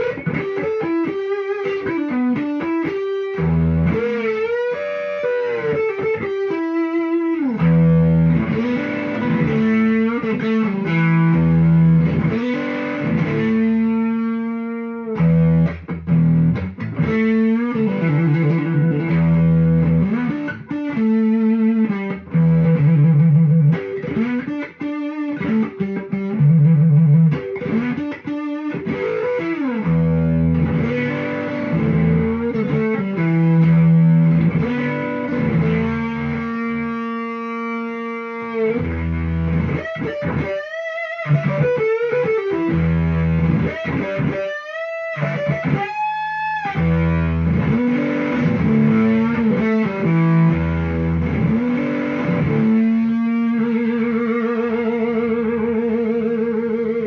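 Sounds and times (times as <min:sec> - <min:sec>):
fuzz electric guitar riff: 0:00.0 - 0:57.0.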